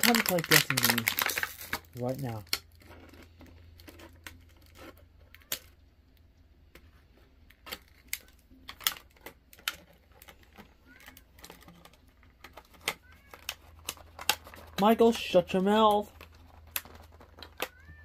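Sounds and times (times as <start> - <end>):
packaging crinkling: 0.0 - 5.9, 7.4 - 18.0.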